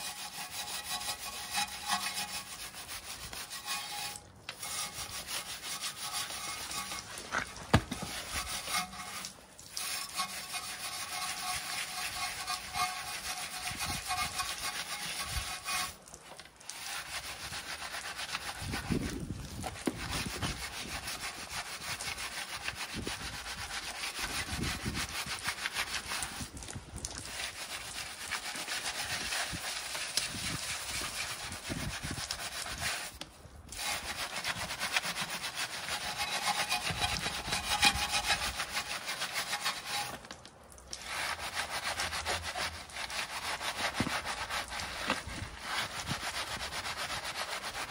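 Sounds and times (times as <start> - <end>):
brush scrubbing a wheel: 0.0 - 47.9.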